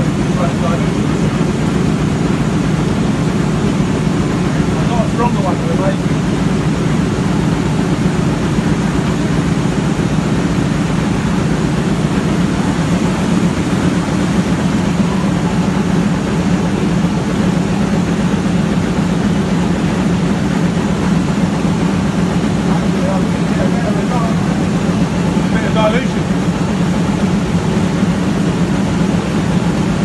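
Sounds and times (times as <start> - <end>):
machinery droning: 0.0 - 30.0.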